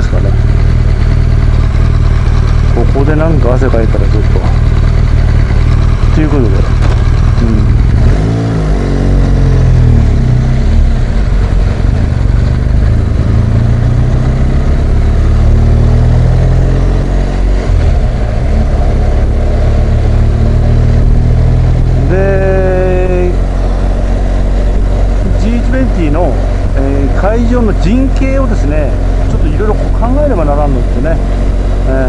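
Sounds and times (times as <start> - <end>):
motorcycle engine rumbling: 0.0 - 32.0.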